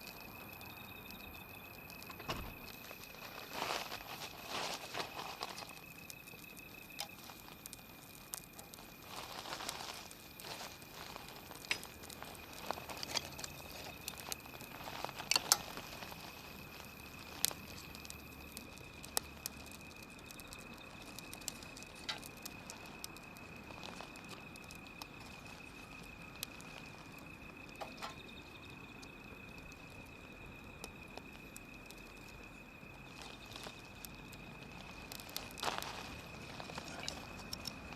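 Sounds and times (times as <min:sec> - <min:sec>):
faint high whine: 0:00.0 - 0:37.9
wood fire crackling and popping: 0:00.0 - 0:37.9.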